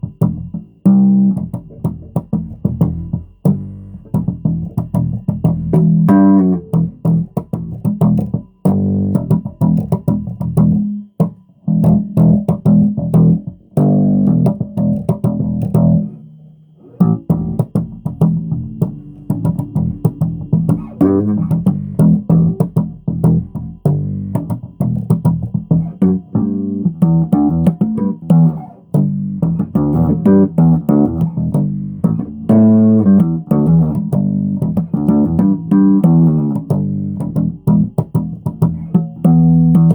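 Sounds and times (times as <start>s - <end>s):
bass guitar plucked notes: 0.0s - 39.9s.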